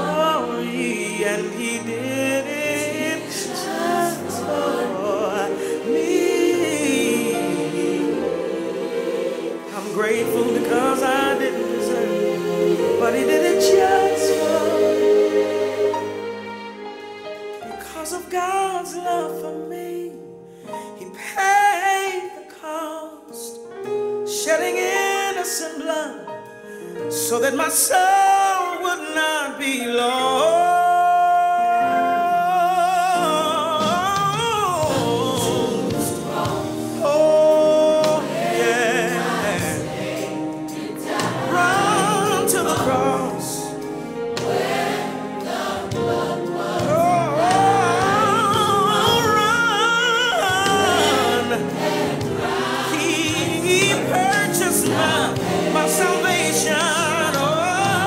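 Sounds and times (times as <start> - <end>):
gospel choir singing with music: 0.0 - 58.0.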